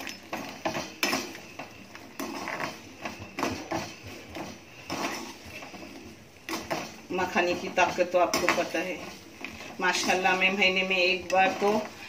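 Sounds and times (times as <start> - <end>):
metal spoon scraping a pan: 0.0 - 12.0.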